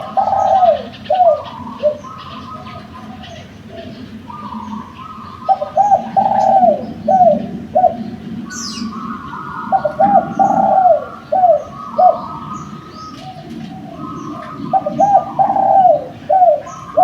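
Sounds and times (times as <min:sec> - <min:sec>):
dove cooing: 0:00.0 - 0:17.0
small birds chirping: 0:00.0 - 0:17.0.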